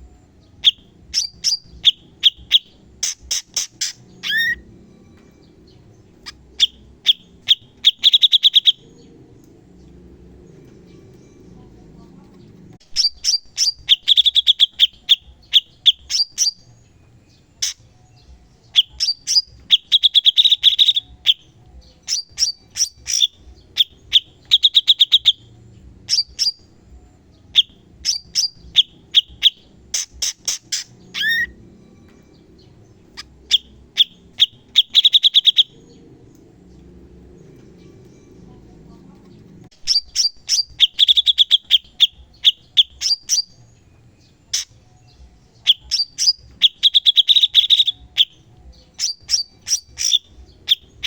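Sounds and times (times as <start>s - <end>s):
bird chattering trills: 0.6s - 16.7s, 17.5s - 17.9s, 18.7s - 26.8s, 27.5s - 44.9s, 45.5s - 51.0s.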